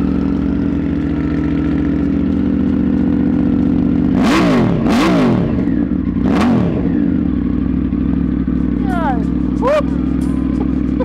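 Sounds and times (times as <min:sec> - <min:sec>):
engine revving: 0:00.0 - 0:11.0
motorcycle engine idling: 0:00.0 - 0:11.0.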